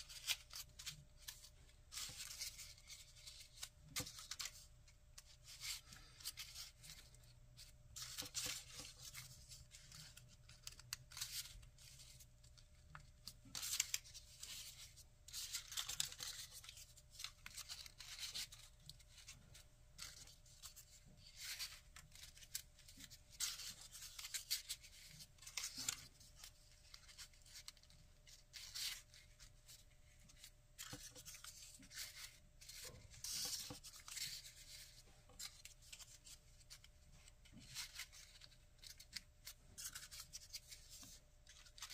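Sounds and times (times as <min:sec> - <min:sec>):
paper rustling and crinkling: 0:00.0 - 0:41.9.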